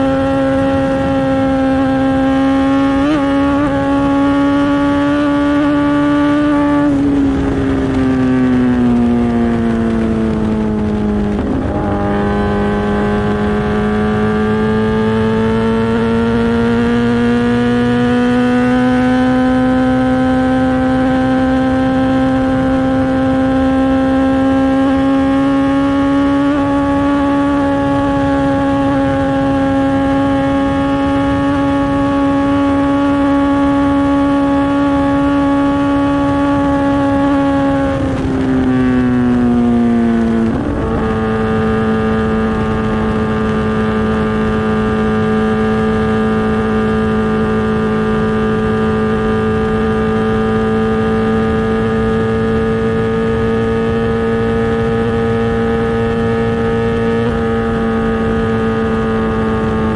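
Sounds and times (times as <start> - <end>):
motorcycle engine revving high: 0.0 - 59.9.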